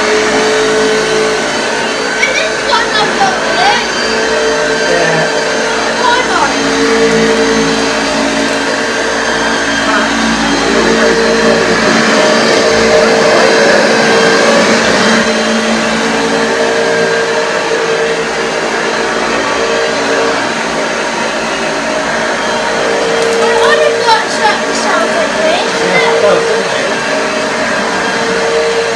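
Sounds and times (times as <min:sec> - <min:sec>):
vacuum cleaner whining hum: 0:00.0 - 0:28.9.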